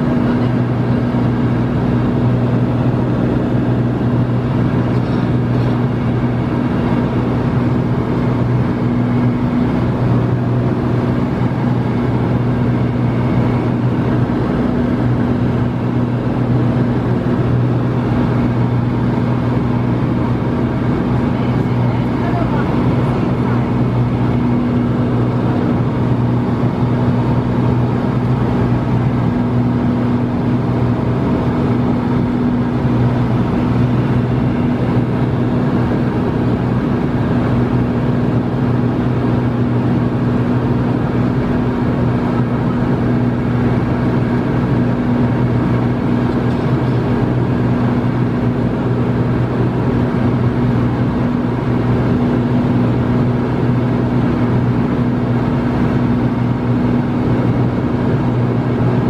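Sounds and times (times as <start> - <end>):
light aircraft engine and propeller drone: 0.0 - 59.0.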